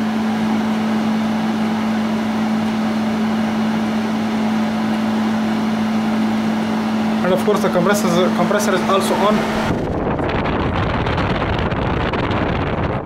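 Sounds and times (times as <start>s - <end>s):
window air conditioner humming: 0.0s - 13.0s.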